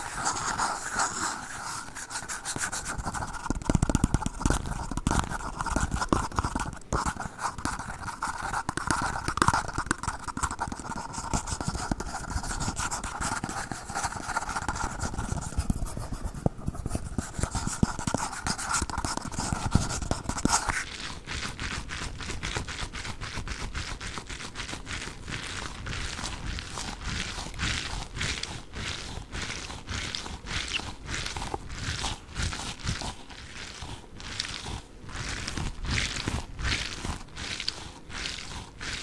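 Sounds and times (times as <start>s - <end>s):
plastic cups scraped and tapped: 0.0s - 39.0s.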